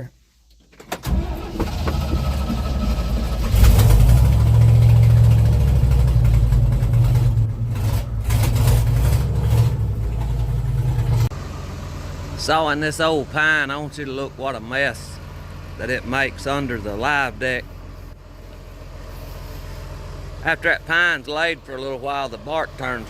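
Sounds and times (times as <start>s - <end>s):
truck engine cranking and starting: 0.6s - 23.0s
truck engine revving: 1.0s - 18.1s, 18.8s - 23.0s.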